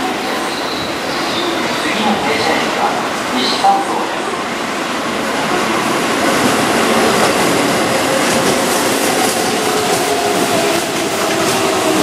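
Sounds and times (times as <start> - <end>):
train wheel and rail noise: 0.0 - 12.0.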